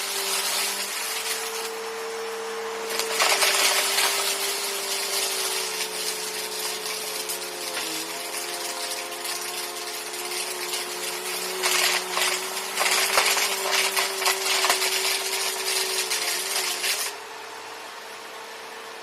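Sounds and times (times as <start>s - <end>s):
debris crackling in vacuum: 0.0s - 17.2s
vacuum cleaner running: 0.0s - 19.0s.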